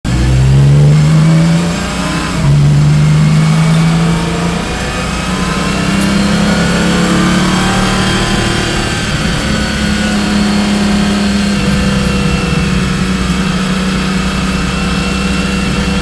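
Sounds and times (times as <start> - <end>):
car engine under hard throttle: 0.0 - 16.0.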